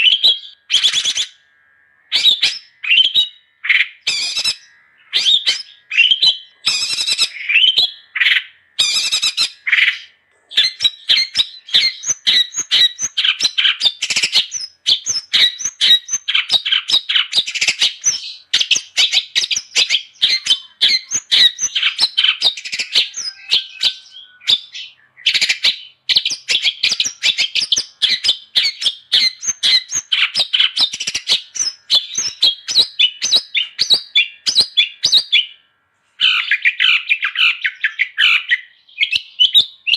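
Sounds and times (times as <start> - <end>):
shrike singing with squawky calls: 0.0 - 35.6, 36.2 - 39.9.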